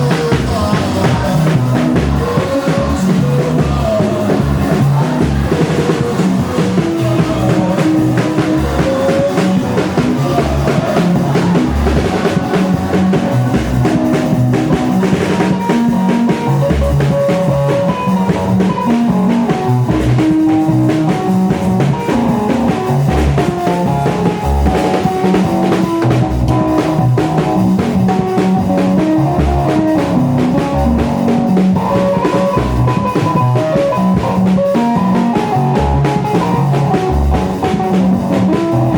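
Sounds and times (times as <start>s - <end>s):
band music with drums and guitar: 0.0s - 38.9s
drum rimshots: 0.0s - 38.9s
walking bass line: 0.0s - 38.9s.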